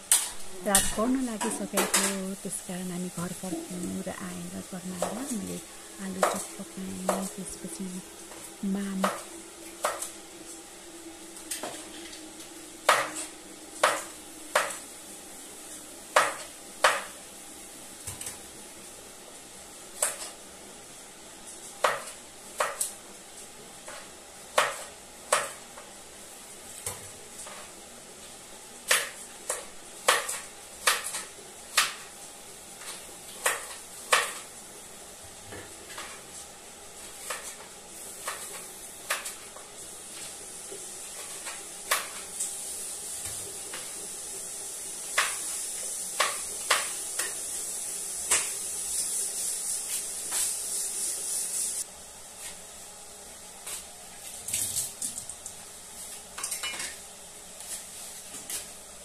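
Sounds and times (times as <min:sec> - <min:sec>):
frying sizzle: 0:00.0 - 0:59.0.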